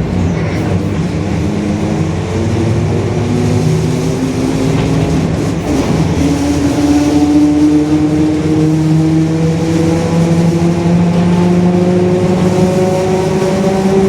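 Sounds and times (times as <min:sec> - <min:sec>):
bus differential whine: 0:00.0 - 0:14.0
engine and road rumble: 0:00.0 - 0:14.0.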